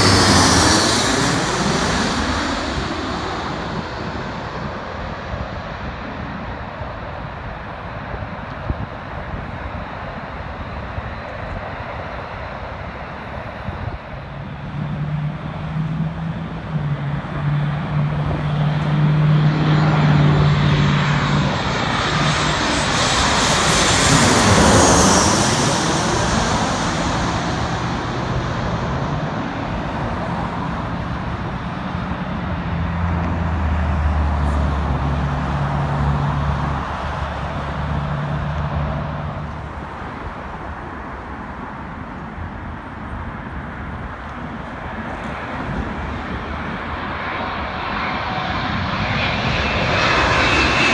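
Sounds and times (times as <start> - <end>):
distant jet rumble: 0.0 - 50.9
jet airliner passing overhead: 0.0 - 50.9.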